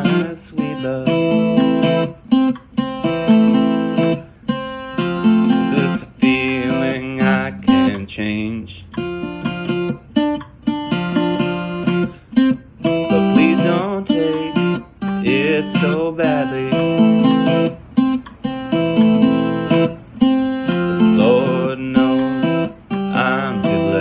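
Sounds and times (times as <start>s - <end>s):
acoustic guitar melody: 0.0s - 24.0s.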